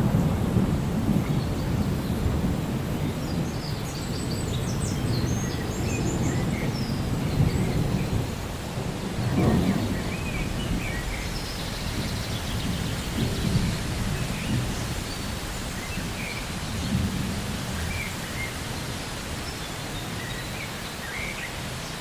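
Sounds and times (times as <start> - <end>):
rolling thunder: 0.0 - 18.8
steady rain: 0.0 - 22.0.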